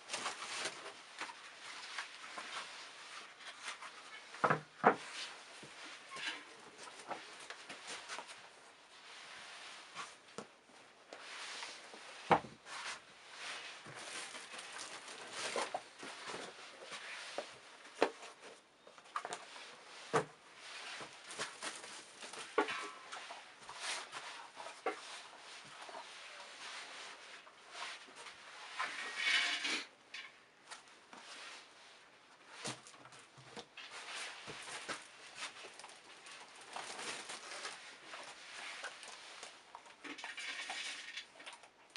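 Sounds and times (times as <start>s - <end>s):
rustling: 0.0s - 41.9s.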